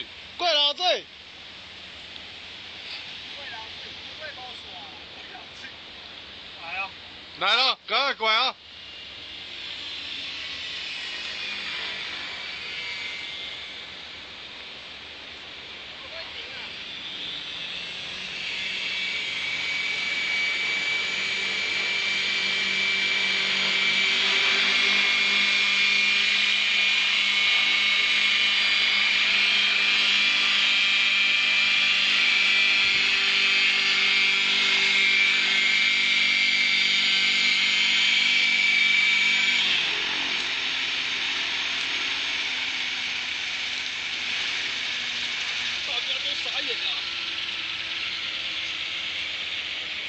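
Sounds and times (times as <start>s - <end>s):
model helicopter high-pitched whine: 0.0s - 50.0s.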